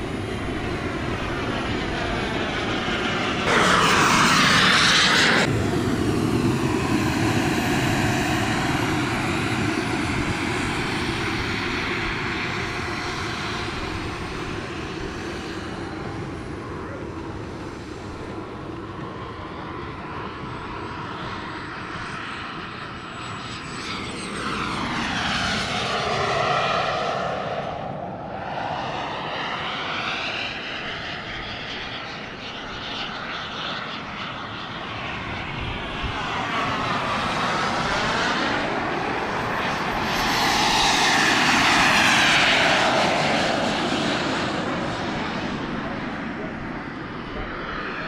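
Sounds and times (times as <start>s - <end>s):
model jet turbine engines: 0.0s - 48.0s.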